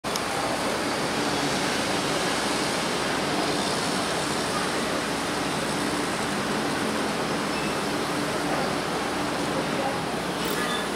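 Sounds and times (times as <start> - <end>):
city street traffic: 0.0 - 10.9.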